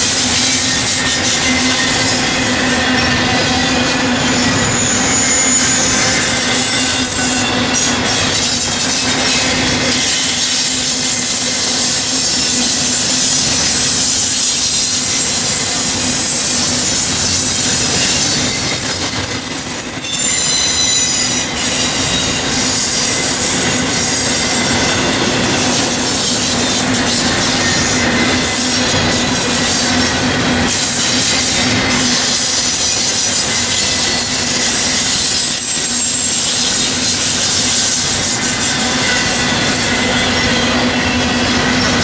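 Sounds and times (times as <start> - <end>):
high squealing wheels: 0.0 - 42.0
train wheels rushing on rails: 0.0 - 42.0.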